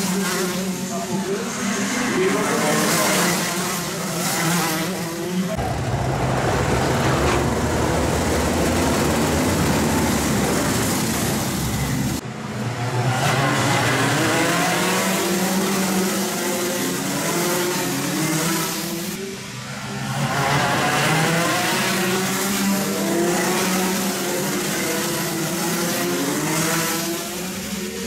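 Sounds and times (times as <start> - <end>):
go-kart engines revving: 0.0 - 28.0.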